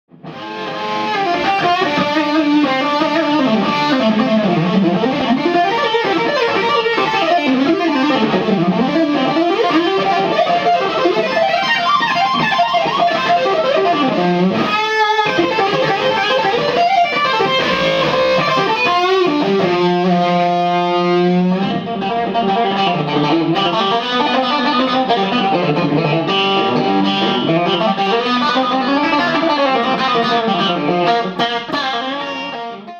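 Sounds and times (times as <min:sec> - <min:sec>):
electric guitar lead runs: 0:00.1 - 0:32.9.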